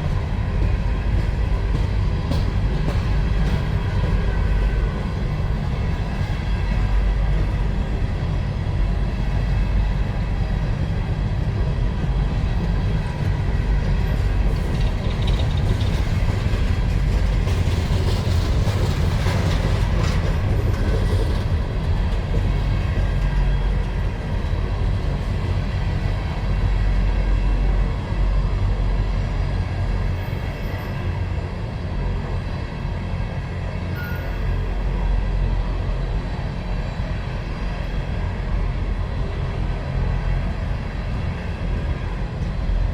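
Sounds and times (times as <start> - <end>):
freight train rumbling on rails: 0.0 - 42.9.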